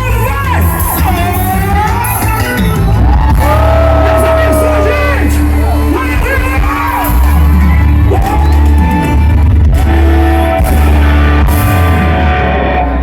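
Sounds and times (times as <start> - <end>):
heavy bass line: 0.0 - 13.0
live band over sound system: 0.0 - 13.0.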